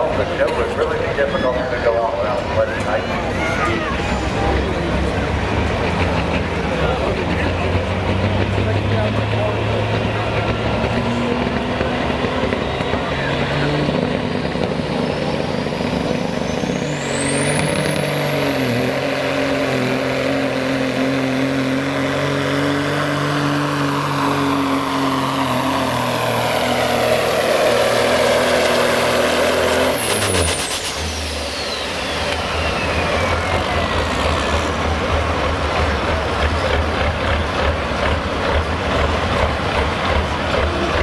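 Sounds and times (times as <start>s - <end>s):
diesel truck engine at full throttle: 0.0s - 41.0s.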